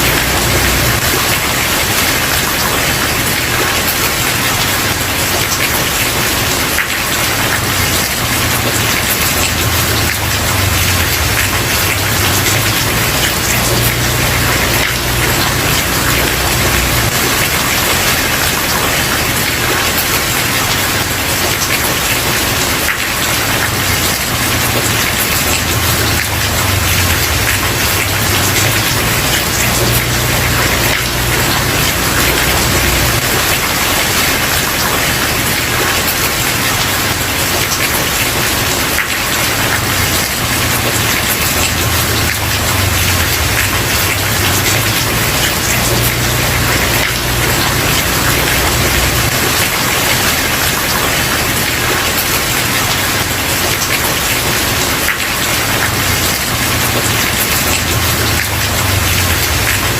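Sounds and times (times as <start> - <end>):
heavy rain on wooden porch: 0.0 - 59.9.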